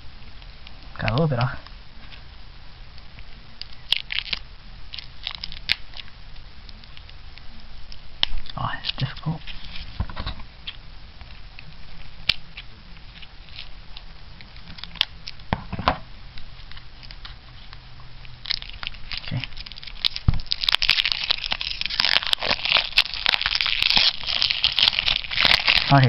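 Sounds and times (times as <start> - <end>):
plastic shrink wrap crinkling and tearing: 3.0 - 15.5, 16.3 - 26.0.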